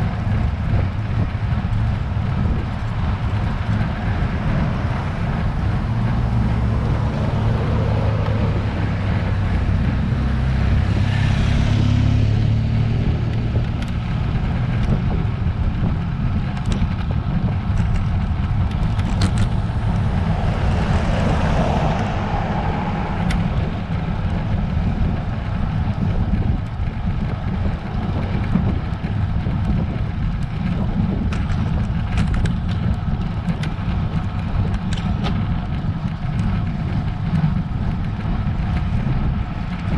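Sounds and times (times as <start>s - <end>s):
road noise: 0.0s - 39.9s
wind rumble on microphone: 0.0s - 39.9s.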